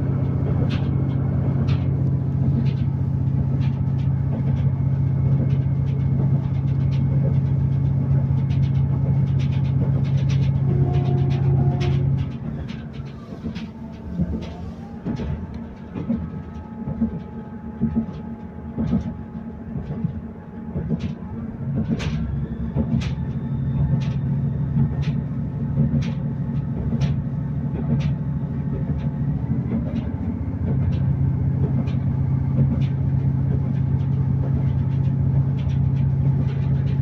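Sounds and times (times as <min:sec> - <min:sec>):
train rumble of engine and wheels: 0:00.0 - 0:37.0
train whine: 0:00.0 - 0:37.0
wheels clicking over track: 0:00.0 - 0:37.0.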